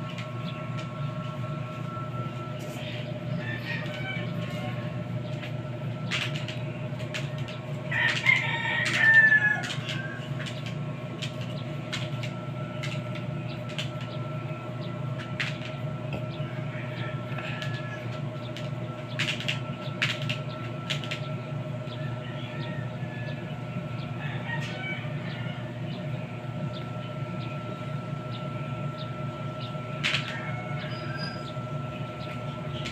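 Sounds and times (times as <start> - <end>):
washing machine motor humming: 0.0 - 32.9.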